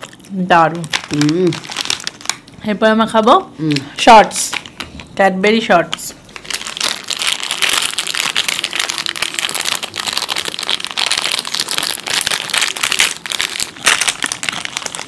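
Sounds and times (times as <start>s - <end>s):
plastic wrappers crinkling: 0.0s - 2.5s, 3.6s - 5.1s, 5.8s - 15.0s.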